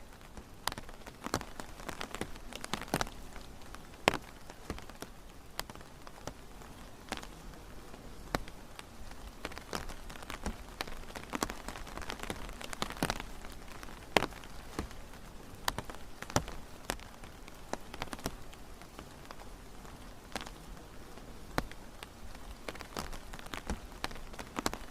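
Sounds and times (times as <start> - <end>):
rain hiss: 0.0 - 24.9
raindrops tapping: 0.0 - 24.9.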